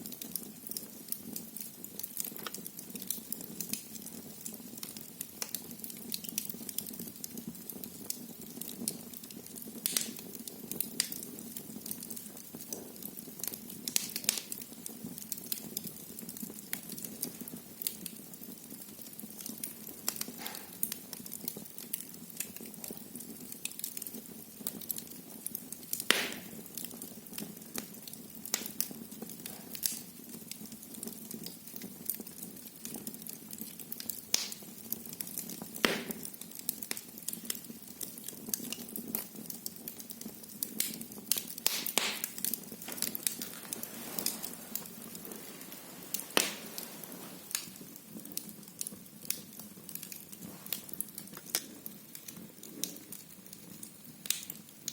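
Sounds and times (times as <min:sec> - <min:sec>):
wood fire crackling: 0:00.0 - 0:54.9
sharp pops of fire: 0:00.1 - 0:54.9.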